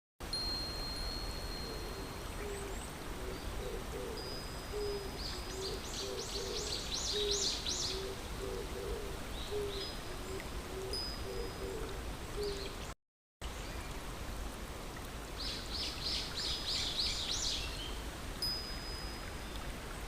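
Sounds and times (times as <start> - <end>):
steady background hiss: 0.2 - 20.0.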